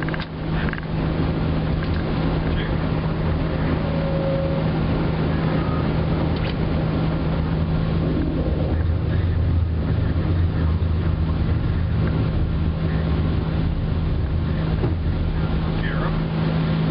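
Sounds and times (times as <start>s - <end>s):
jet engines droning: 0.0s - 16.9s.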